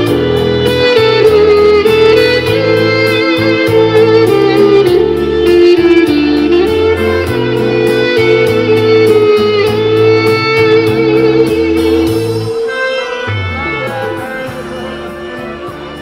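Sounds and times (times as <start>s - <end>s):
amplified backing track with beat: 0.0s - 16.0s
woodwind melody with bending notes: 0.0s - 16.0s.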